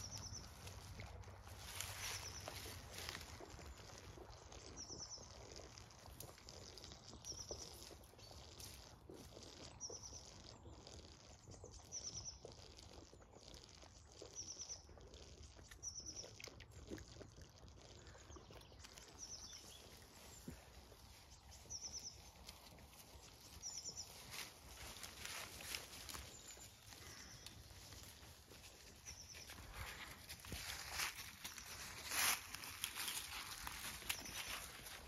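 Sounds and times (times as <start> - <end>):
small bird chirping: 0.0 - 35.0.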